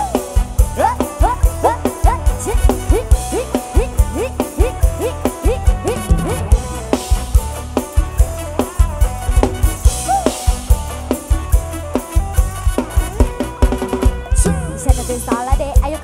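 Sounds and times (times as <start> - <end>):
live pop band instrumental: 0.0 - 16.0.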